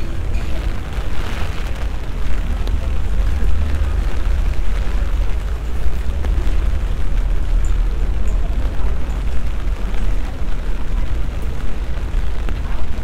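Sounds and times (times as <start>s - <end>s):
rain hiss on cobbled street: 0.0s - 13.0s.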